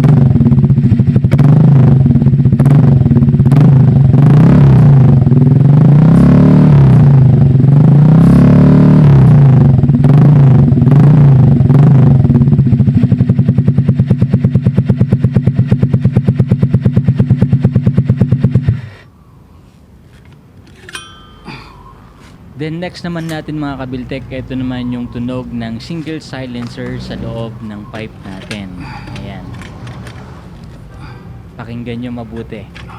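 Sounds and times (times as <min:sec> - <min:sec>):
scooter engine revving and idling: 0:00.0 - 0:19.0, 0:21.8 - 0:32.9.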